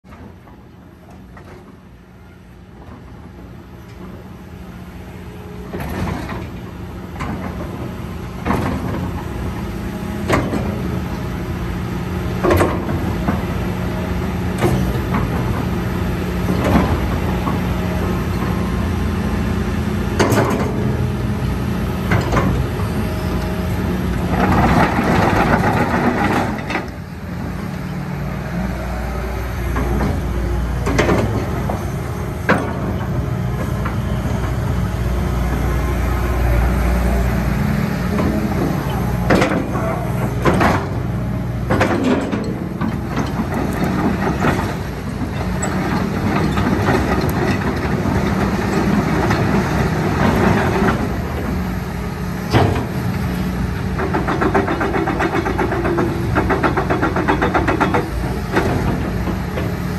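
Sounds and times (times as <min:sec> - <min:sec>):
excavator diesel engine running: 0:00.1 - 0:59.9.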